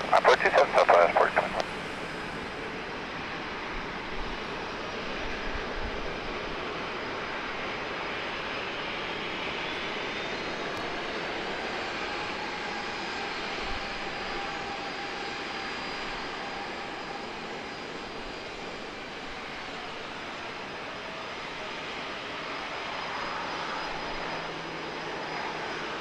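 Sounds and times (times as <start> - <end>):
jet engine roar with whine: 0.0 - 26.0.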